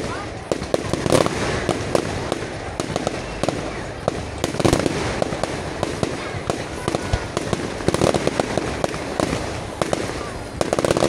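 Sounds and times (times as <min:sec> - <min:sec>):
fireworks shells bursting: 0:00.0 - 0:11.0.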